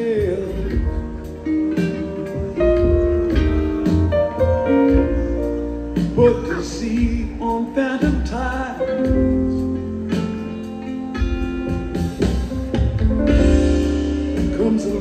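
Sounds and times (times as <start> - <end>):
drums: 0.0 - 15.0
electric guitar: 0.0 - 15.0
keyboards: 0.0 - 15.0.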